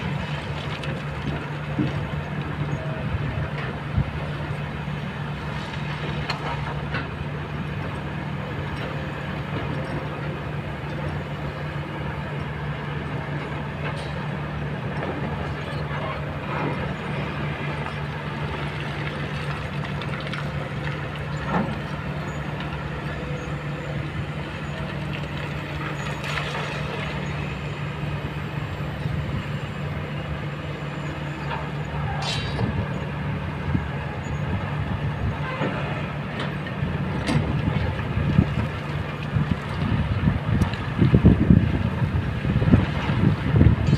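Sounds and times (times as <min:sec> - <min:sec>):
excavator diesel engines humming: 0:00.0 - 0:43.9.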